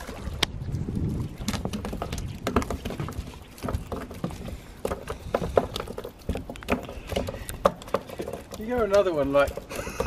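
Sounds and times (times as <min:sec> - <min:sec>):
footsteps on wooden boards: 0:01.0 - 0:10.0
fish flapping on deck: 0:01.1 - 0:10.0.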